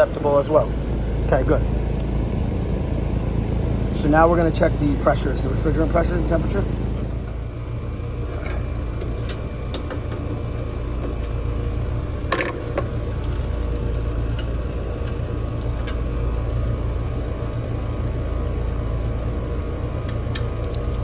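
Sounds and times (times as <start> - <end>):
air conditioner condenser humming: 0.0 - 21.0.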